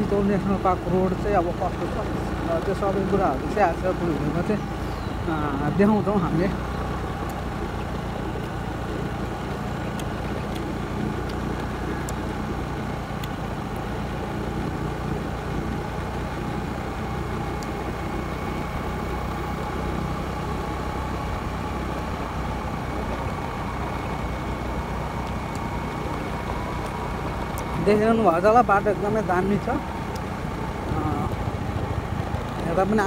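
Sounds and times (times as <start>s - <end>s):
motor scooter engine running: 0.0s - 33.0s
wind and road rush: 0.0s - 33.0s.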